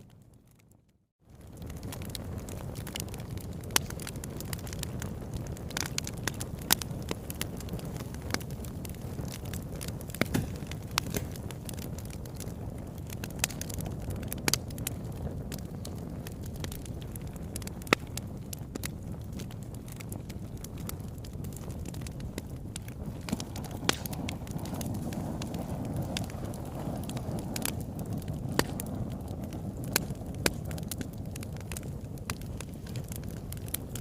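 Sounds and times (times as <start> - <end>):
fire crackling in a fireplace: 0.0 - 34.0.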